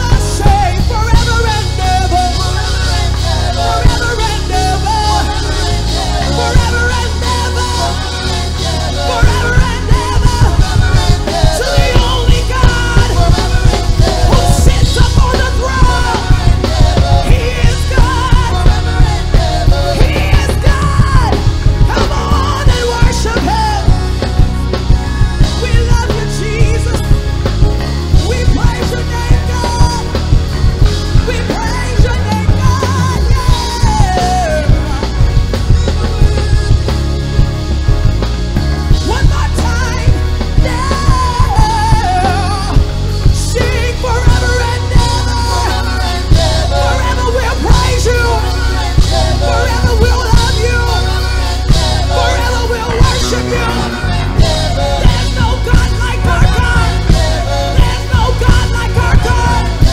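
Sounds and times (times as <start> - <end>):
drum beat: 0.0 - 38.4, 39.0 - 59.9
bass: 0.0 - 59.9
lead singer singing: 0.0 - 59.9
organ and keyboards: 0.0 - 59.9.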